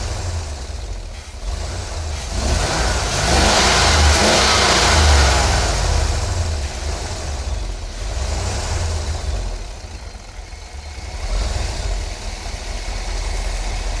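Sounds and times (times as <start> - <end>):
car engine idling with misfire: 0.0 - 14.0.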